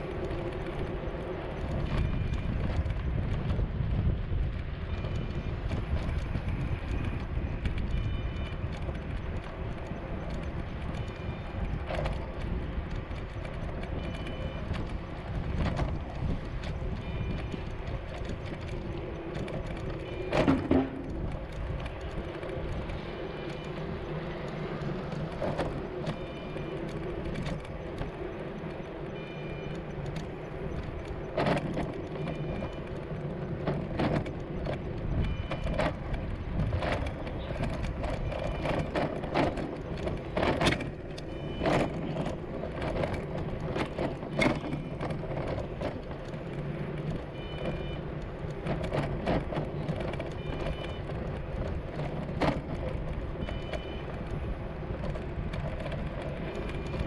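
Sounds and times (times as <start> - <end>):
knocks and clicks: 4.9 - 57.0.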